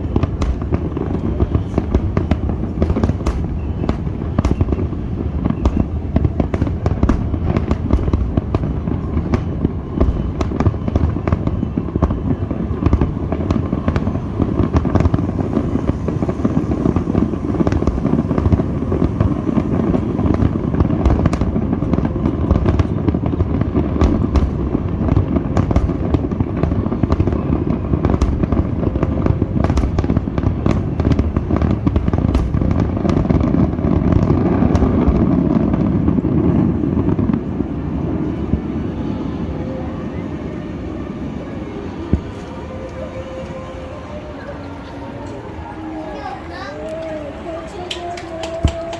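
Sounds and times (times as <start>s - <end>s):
fireworks booming: 0.0s - 48.9s
fireworks cracking: 0.0s - 48.9s.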